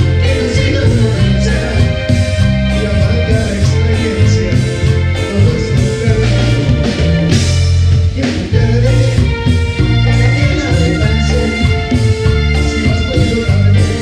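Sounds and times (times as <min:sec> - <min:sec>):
bass: 0:00.0 - 0:14.0
drums: 0:00.0 - 0:14.0
guitar: 0:00.0 - 0:14.0
keyboards: 0:00.0 - 0:14.0.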